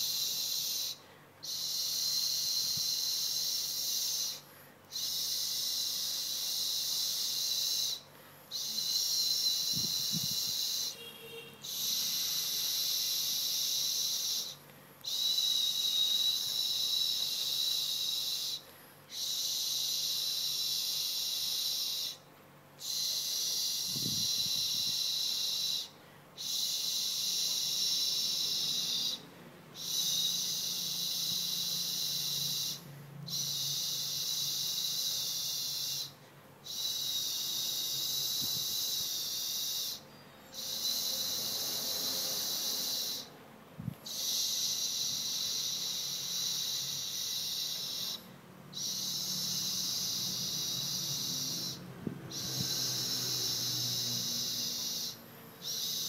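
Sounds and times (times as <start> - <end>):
high-pitched insect buzzing: 0.0 - 22.2, 22.8 - 29.2, 29.8 - 43.3, 44.1 - 56.0.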